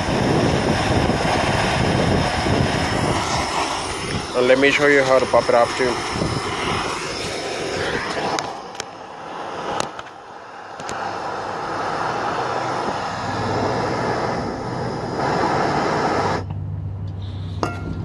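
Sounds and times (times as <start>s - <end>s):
propane torch flame roaring hiss: 0.0s - 17.7s.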